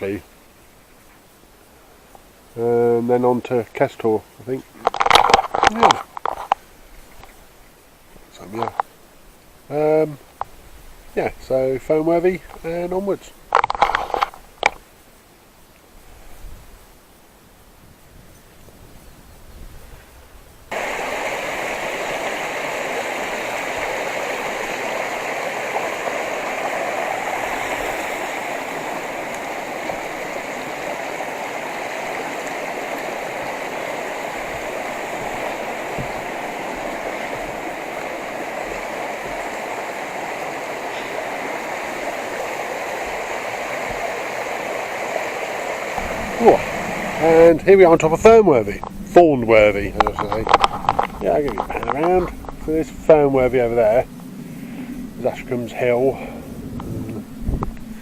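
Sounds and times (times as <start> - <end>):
stream water flowing: 0.0 - 17.6, 20.7 - 58.0.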